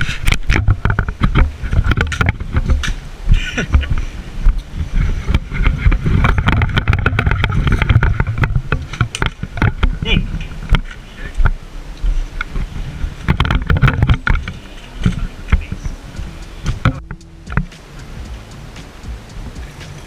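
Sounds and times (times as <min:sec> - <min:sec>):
microphone handling clicks and knocks: 0:00.0 - 0:20.0
wind buffeting microphone: 0:00.0 - 0:20.0.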